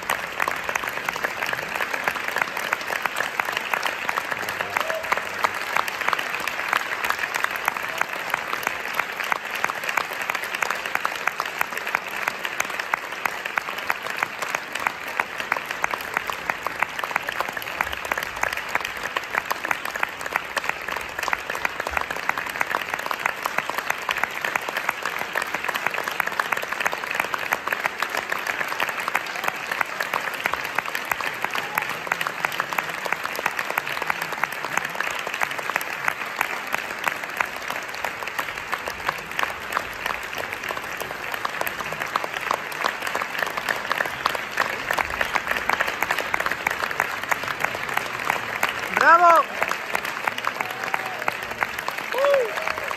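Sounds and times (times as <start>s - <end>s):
audience applauding: 0.0s - 52.9s.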